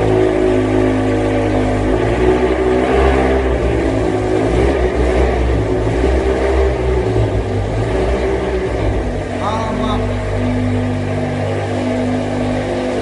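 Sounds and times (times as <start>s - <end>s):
car engine deep exhaust rumble: 0.0s - 13.0s.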